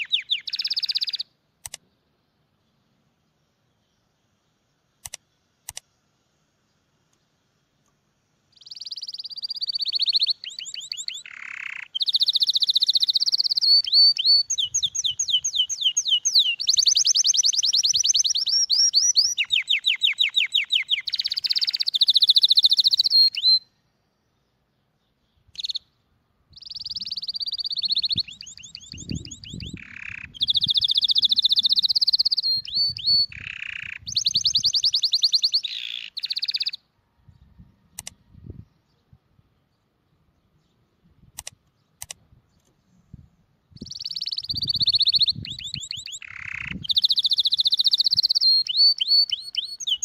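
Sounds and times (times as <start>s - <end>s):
songbird trilling and chirping: 0.0s - 1.8s, 2.6s - 50.0s.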